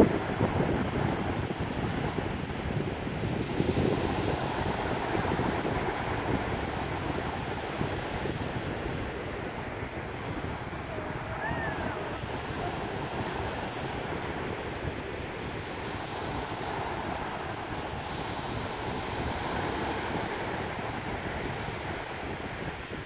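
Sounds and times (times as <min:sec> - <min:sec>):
small waves washing: 0:00.0 - 0:23.0
wind on microphone: 0:00.0 - 0:23.0.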